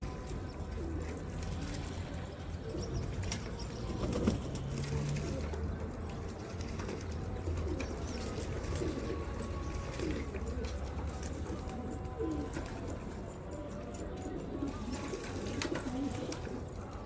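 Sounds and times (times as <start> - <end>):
pigeons cooing: 0.1 - 17.0.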